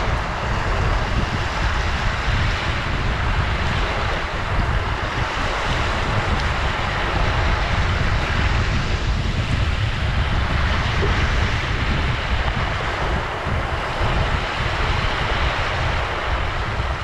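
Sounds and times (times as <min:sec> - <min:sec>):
ocean surf roaring: 0:00.0 - 0:17.0.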